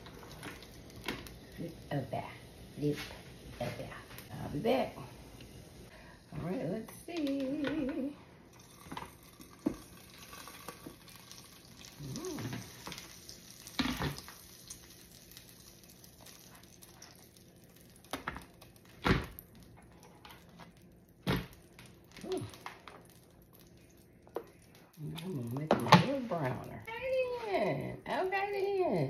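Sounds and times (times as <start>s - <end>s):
waffle maker plates sizzling: 0.0s - 29.0s.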